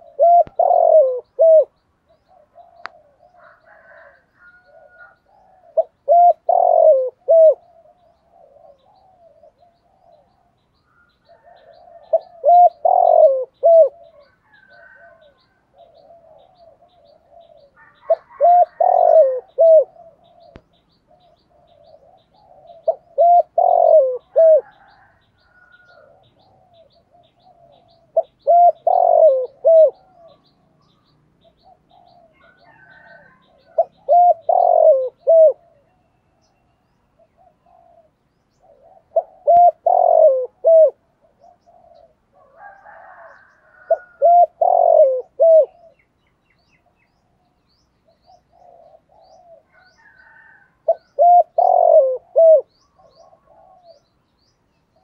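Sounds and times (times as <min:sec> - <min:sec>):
dove cooing: 0:00.0 - 0:46.2, 0:46.8 - 0:54.2.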